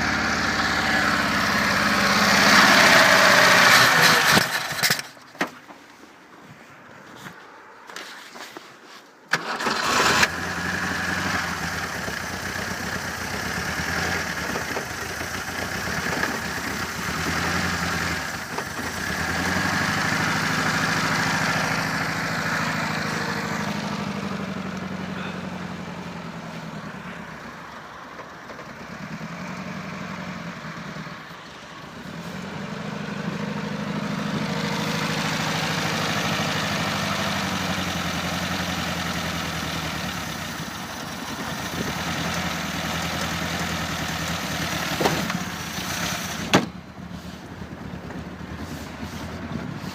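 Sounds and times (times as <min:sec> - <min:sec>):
engine starting and running: 0:00.0 - 0:05.3, 0:09.3 - 0:49.9.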